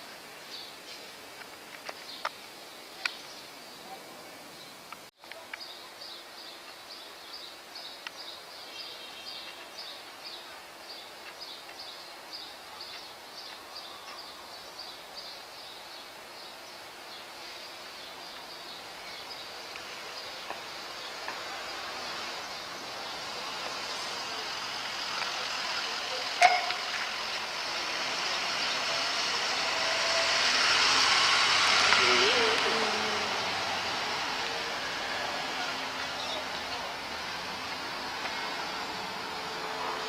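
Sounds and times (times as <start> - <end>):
street background noise: 0.0 - 40.0.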